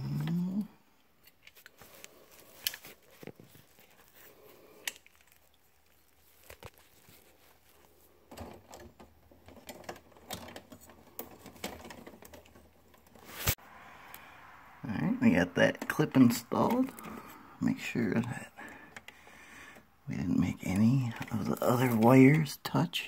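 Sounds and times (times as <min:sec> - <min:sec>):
wires rustling: 0:00.0 - 0:23.0.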